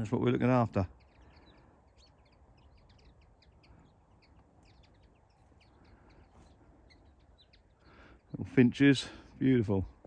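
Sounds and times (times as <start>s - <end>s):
finches chirping: 0.0s - 10.0s.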